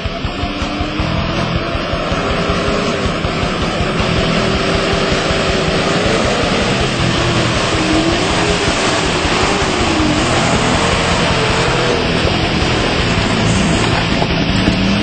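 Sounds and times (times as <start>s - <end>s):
vehicle engine running under load: 0.0s - 15.0s
wash of water from wheels: 0.0s - 15.0s.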